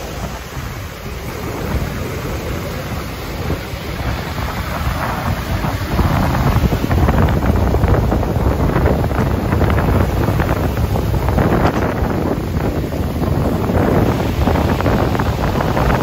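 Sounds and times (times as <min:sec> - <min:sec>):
storm surf breaking on pebbles: 0:00.0 - 0:16.0
wind buffeting microphone: 0:00.0 - 0:16.0.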